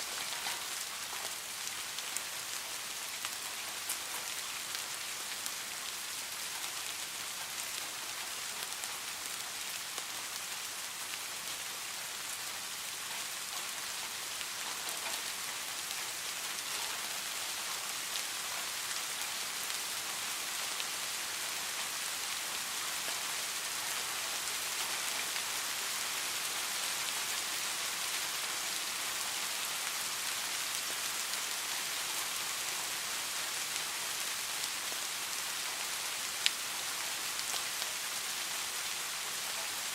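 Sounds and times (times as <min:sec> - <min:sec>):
faint ticks of raindrops: 0:00.0 - 0:39.9
steady rain falling: 0:00.0 - 0:39.9.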